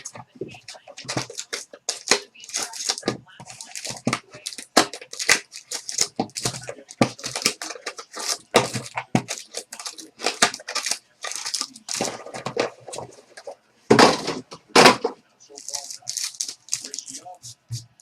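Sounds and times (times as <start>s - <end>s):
foil packs tearing: 0.0s - 13.1s, 15.6s - 17.4s
wrappers crinkling: 0.0s - 13.6s, 15.5s - 18.0s
cards being handled: 0.0s - 14.5s, 15.6s - 18.0s.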